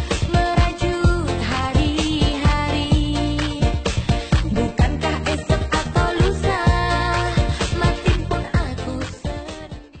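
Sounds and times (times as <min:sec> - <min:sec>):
music with beat and deep bass: 0:00.0 - 0:10.0.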